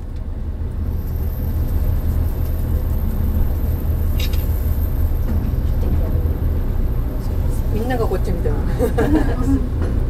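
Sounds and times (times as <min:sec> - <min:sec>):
railcar engine and wheels rumbling: 0:00.0 - 0:10.0.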